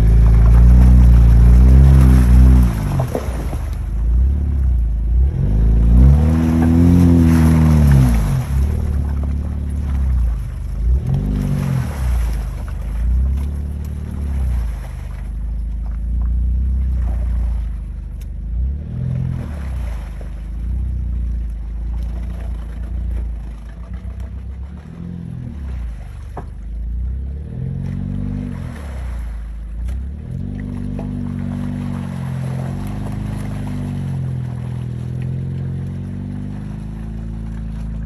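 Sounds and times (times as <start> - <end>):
vehicle engine revving: 0.0 - 38.0.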